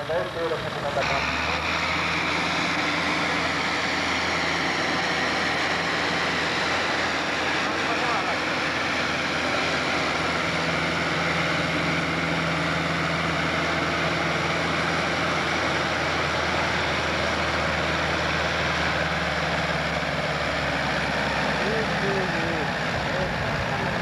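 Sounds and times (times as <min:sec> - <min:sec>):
tractor diesel engine droning: 0:00.0 - 0:24.0.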